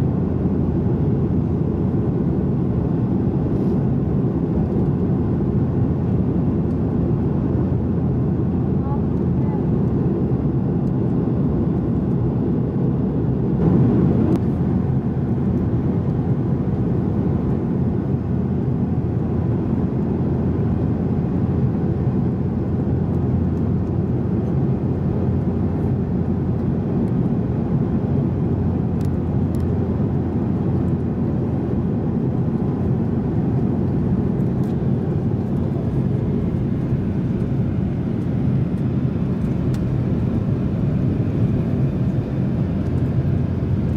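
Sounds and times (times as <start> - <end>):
aircraft cabin engine rumble: 0.0 - 43.9.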